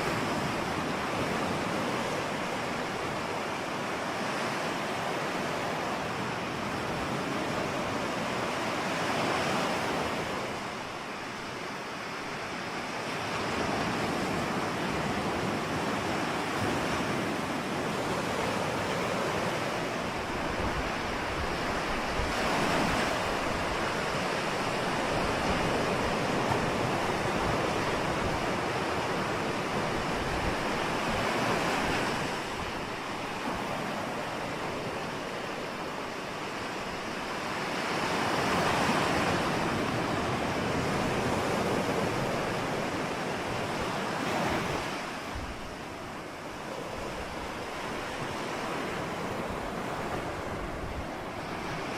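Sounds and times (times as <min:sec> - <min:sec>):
ocean surf breaking: 0:00.0 - 0:51.9.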